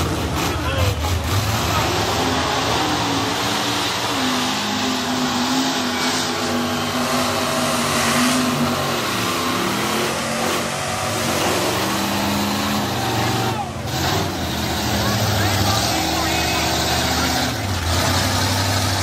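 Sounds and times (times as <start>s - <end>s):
tires churning mud: 0.0s - 19.0s
truck engine revving hard: 0.0s - 19.0s.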